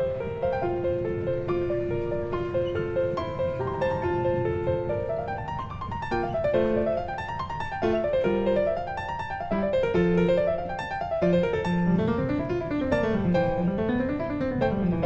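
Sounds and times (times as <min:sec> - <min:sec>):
piano arpeggios: 0:00.0 - 0:15.0.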